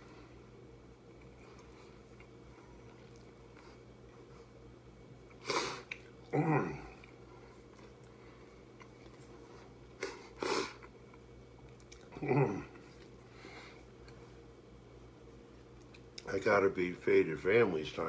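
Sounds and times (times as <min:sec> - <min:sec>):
man chewing food: 0:00.0 - 0:16.3.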